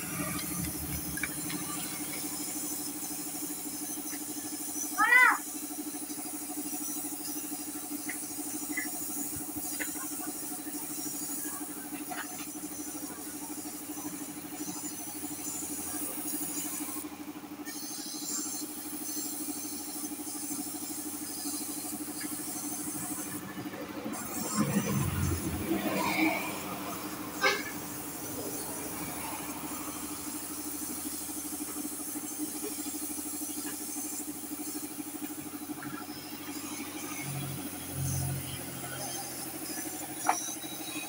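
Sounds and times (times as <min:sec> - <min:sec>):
paint spray gun hissing: 0:00.0 - 0:25.6, 0:26.6 - 0:41.0
steady mechanical hum: 0:00.0 - 0:41.0.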